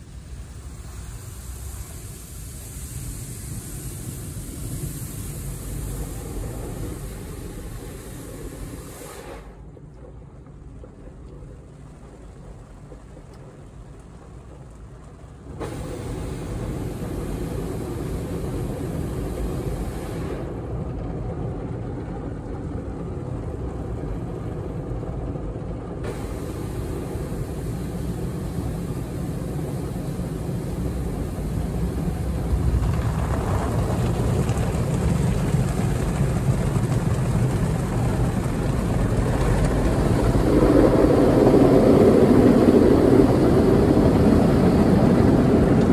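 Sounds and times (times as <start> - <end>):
car wash brushes and water spray: 0.0 - 20.8, 23.4 - 45.9.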